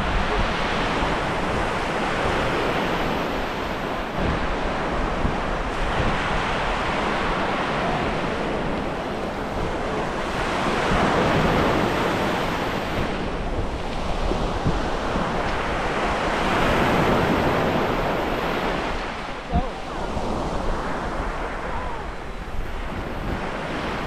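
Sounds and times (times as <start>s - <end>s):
waves washing over stony shore: 0.0s - 24.0s.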